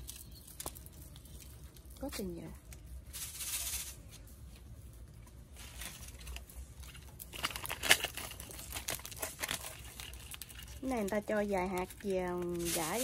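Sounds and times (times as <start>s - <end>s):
dry seed pods crackling: 0.0s - 13.0s.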